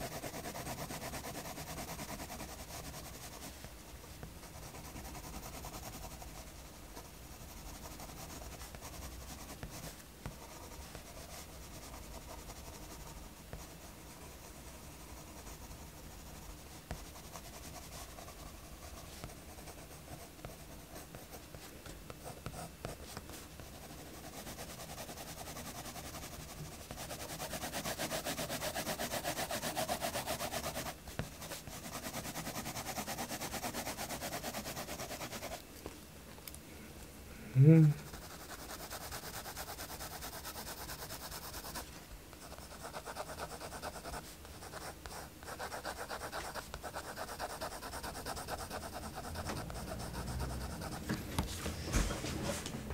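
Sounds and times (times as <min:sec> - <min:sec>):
pencil scratching on paper: 0:00.0 - 0:35.6, 0:38.0 - 0:52.6.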